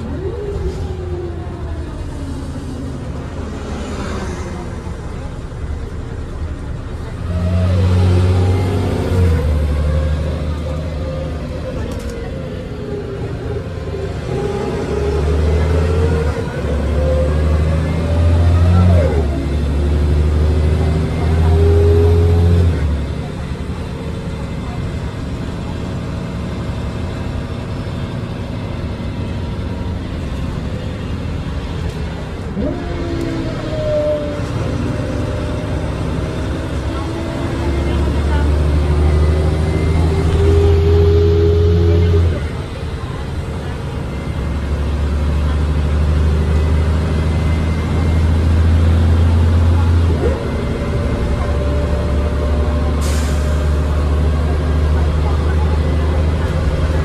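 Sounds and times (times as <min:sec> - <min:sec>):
bus engine drone: 0:00.0 - 0:57.0
road and tyre noise: 0:00.0 - 0:57.0.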